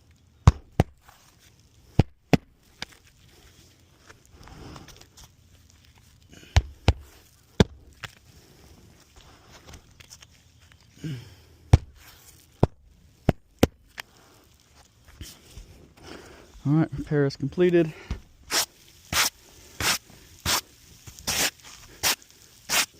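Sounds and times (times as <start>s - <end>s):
rustling of handling: 0.0s - 2.0s, 2.6s - 22.9s.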